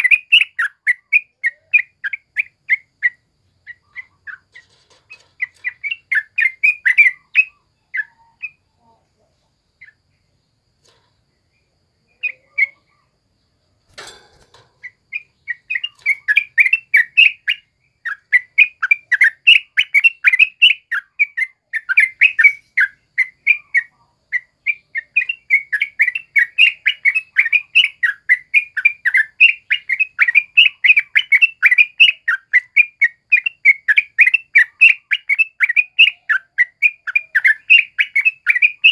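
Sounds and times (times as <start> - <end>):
bird singing chattering notes: 0.0 - 8.8, 9.7 - 38.9.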